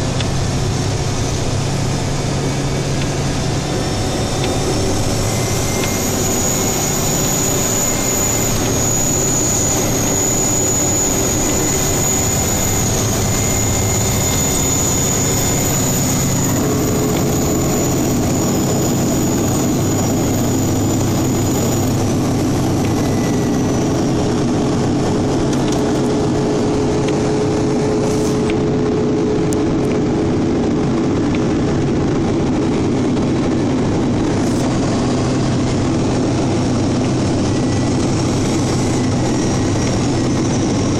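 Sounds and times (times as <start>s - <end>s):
road noise inside cab: 0.0s - 40.9s
steady whine: 0.0s - 40.9s
truck engine drone: 0.0s - 40.9s.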